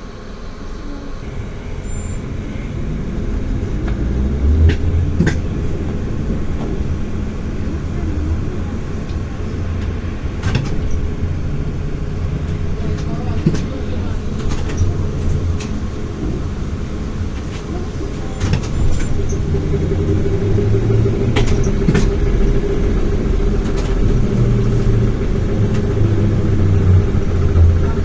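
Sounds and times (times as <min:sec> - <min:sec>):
trolleybus rumble and hum: 0:00.0 - 0:28.0
sharp clicks and rattles: 0:01.2 - 0:28.0.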